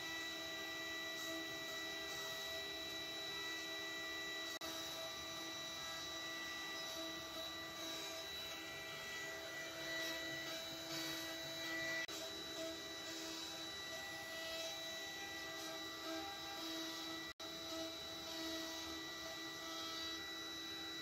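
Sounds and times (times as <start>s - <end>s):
router cutting wood: 0.0s - 21.0s
router spindle motors whining: 0.0s - 21.0s.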